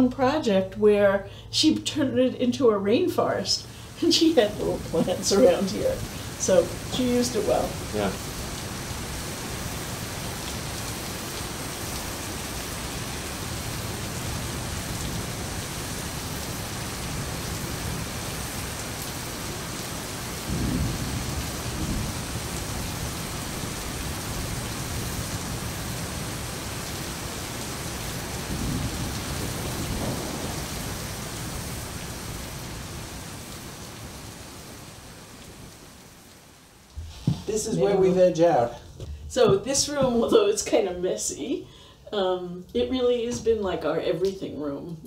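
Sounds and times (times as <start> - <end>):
steady hiss like rain: 0.0 - 45.0.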